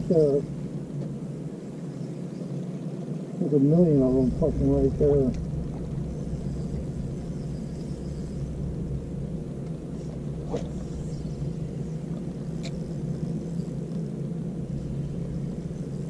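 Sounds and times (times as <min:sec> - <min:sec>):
hum: 0:00.0 - 0:16.0
low rumble: 0:00.0 - 0:16.0.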